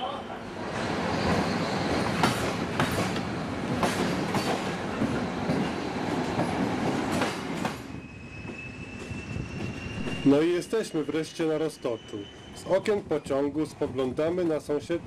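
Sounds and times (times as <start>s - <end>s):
train wheels rumbling on track: 0.2s - 15.0s.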